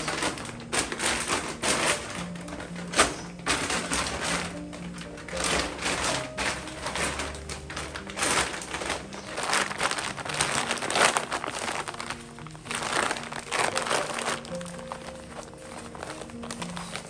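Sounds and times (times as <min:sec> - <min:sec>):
background music: 0:00.0 - 0:17.0
fabric tote bag rustling: 0:00.0 - 0:17.0.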